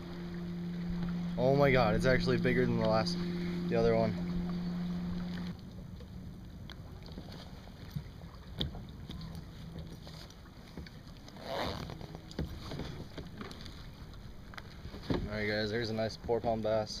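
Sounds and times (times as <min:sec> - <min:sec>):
knocks and handling in kayak: 0:00.0 - 0:17.0.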